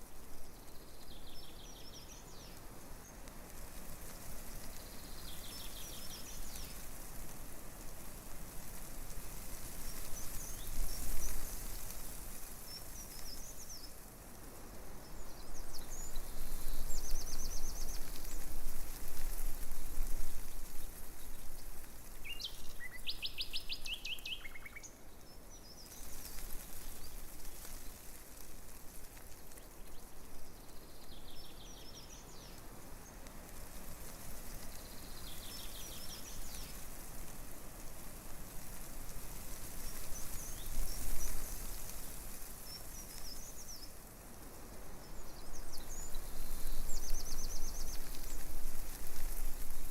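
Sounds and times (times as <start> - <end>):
breeze rustling leaves: 0.0 - 49.9.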